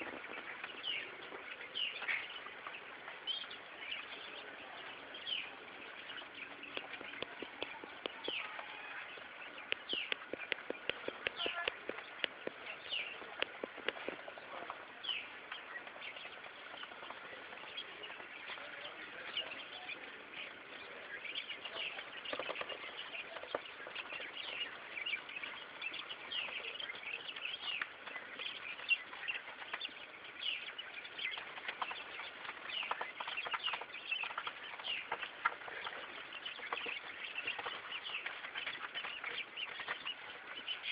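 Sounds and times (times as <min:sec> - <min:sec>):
quail chirping: 0:00.0 - 0:40.9.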